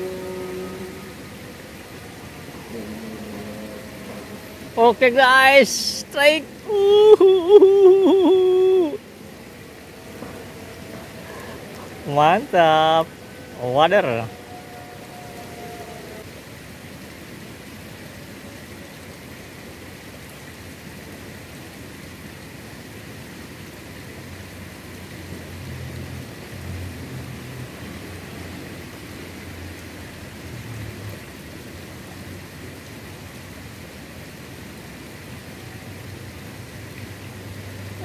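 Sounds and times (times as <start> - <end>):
water flowing in ditch: 0.0 - 38.0.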